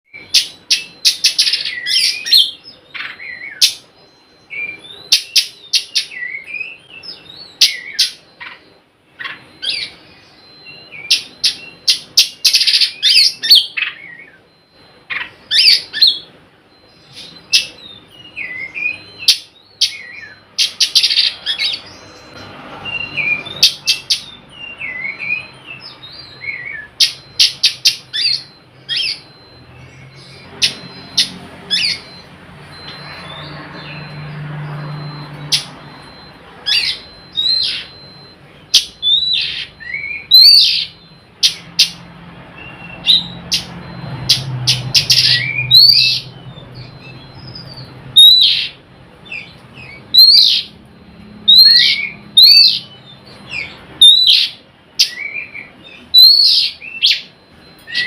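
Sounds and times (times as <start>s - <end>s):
bird singing chattering and whistling: 0.1s - 58.0s.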